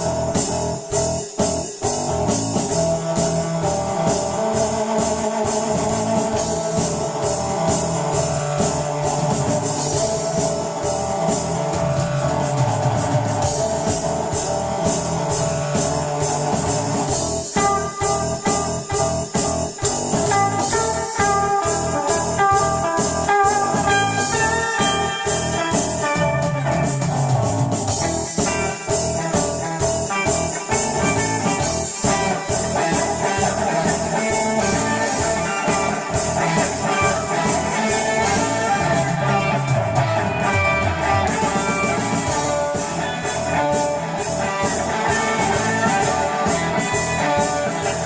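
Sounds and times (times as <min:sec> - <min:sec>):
blues-rock music: 0:00.0 - 0:48.0
drum kit beat: 0:00.0 - 0:48.0
high guitar notes: 0:00.0 - 0:48.0.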